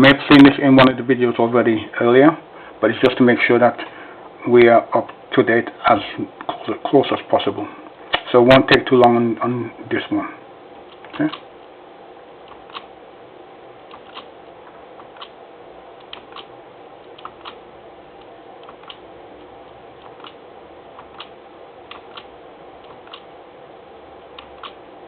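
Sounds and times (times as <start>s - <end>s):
background hiss and hum: 0.0s - 25.0s.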